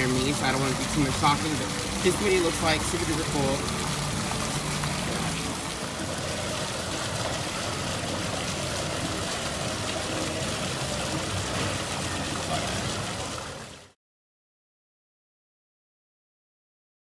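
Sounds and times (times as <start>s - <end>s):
waterfall splashing: 0.0s - 14.0s.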